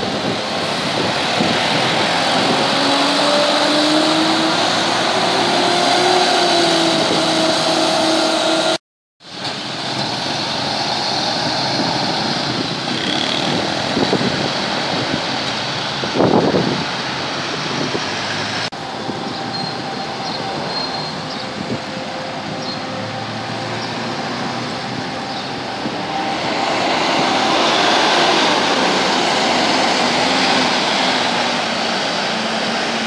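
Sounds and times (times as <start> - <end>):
bus engine accelerating: 0.0 - 33.0
street traffic noise: 0.0 - 33.0.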